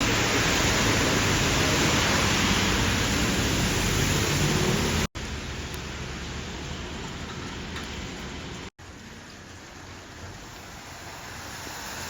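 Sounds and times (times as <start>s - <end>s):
heavy rain hissing: 0.0s - 7.0s, 8.4s - 12.0s
soft rain with patters of drops: 0.0s - 12.0s.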